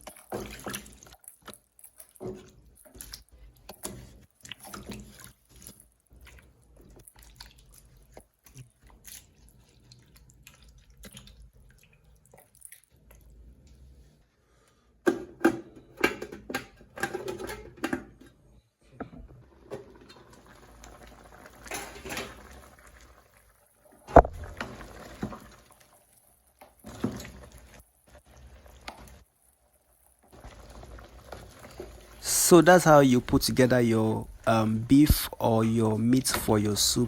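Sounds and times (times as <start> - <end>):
faint simmer: 0.0 - 15.1, 17.0 - 37.0.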